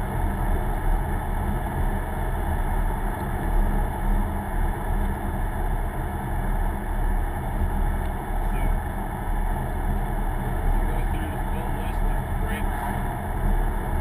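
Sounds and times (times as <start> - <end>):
car engine hum: 0.0 - 14.0
tyre road noise: 0.0 - 14.0.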